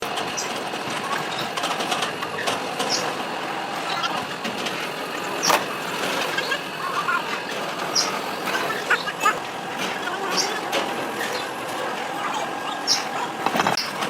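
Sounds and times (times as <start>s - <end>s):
steady mechanical noise: 0.0s - 14.0s.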